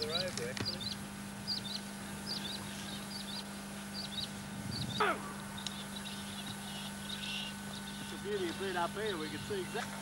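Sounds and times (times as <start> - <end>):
birds chirping: 0.0 - 10.0
low electrical hum: 0.0 - 10.0.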